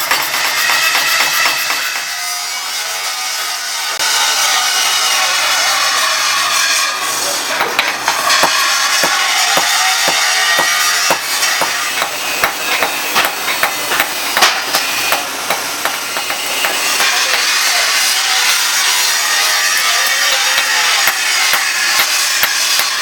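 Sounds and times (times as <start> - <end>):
hammer striking steel: 0.0 - 2.4, 6.2 - 23.0.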